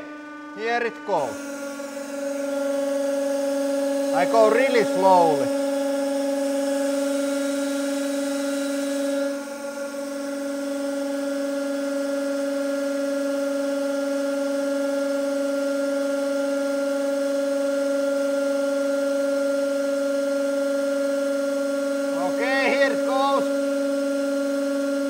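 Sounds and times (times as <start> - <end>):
hydraulic pump hum: 0.0 - 25.0.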